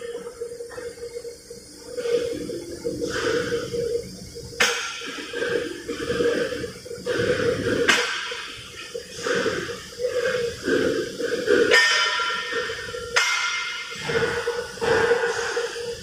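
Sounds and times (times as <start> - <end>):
rush of hissing noise: 0.0 - 16.0.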